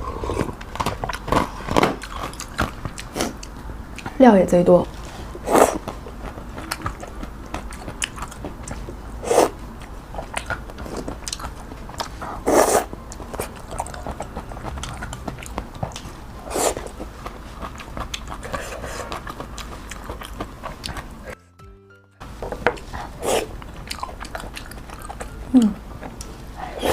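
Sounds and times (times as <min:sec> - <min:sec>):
wet chewing and crunching: 0:00.2 - 0:04.2, 0:04.9 - 0:21.4, 0:22.7 - 0:26.9.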